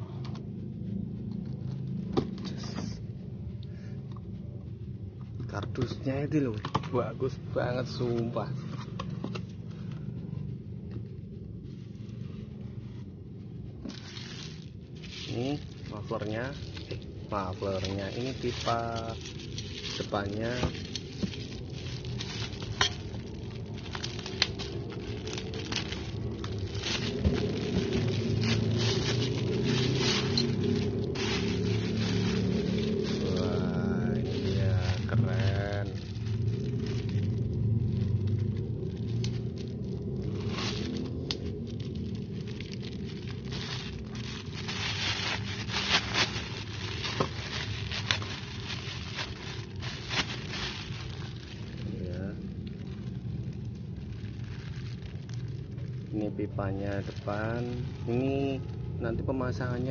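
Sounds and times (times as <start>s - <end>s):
steady low hum: 0.0s - 59.9s
plastic wrapping crinkling: 5.8s - 59.9s.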